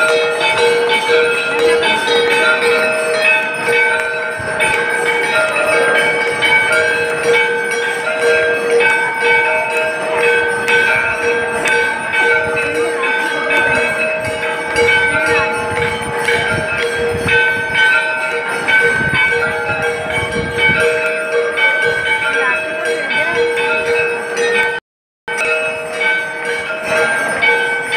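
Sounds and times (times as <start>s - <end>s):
crowd voices: 0.0s - 24.8s
bells ringing: 0.0s - 27.9s.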